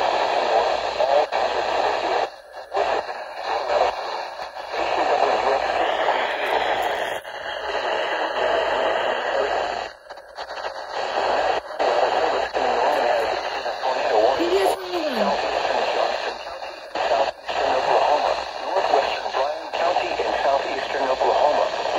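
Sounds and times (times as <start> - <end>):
radio static hiss: 0.0 - 21.9.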